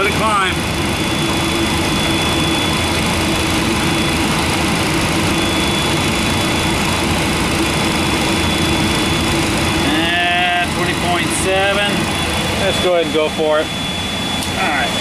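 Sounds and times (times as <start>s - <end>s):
jet engine hum: 0.0s - 15.0s
thin high whine: 0.0s - 15.0s.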